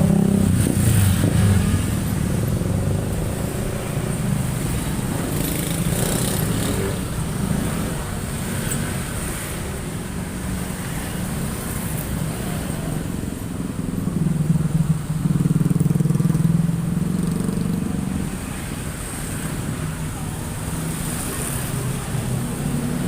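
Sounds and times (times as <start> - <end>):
road traffic on a bridge: 0.0 - 23.0.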